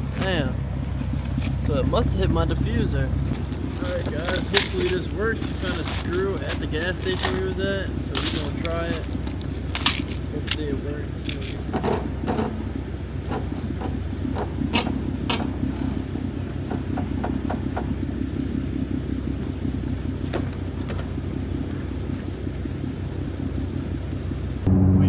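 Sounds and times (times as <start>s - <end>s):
vehicle idling hum: 0.0s - 25.0s.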